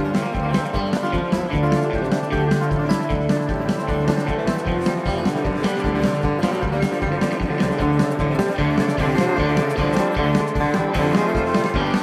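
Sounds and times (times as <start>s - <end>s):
bass and drum beat: 0.0s - 12.0s
live band playing: 0.0s - 12.0s
picked acoustic guitar: 0.0s - 12.0s.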